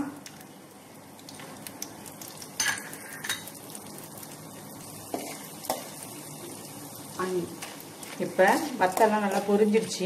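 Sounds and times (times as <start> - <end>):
sharp cracks of frying: 0.0 - 9.7
dried vegetables frying in oil: 0.0 - 10.0.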